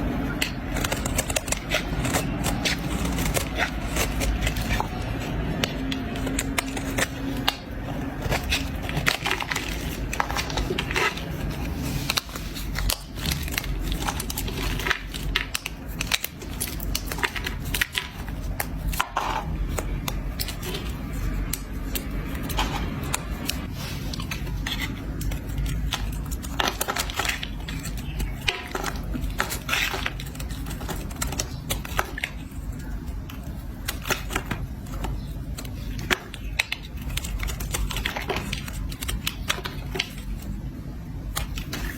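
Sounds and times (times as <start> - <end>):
blade scraping soap: 0.1 - 40.6
crisp crackling clicks: 0.3 - 41.9.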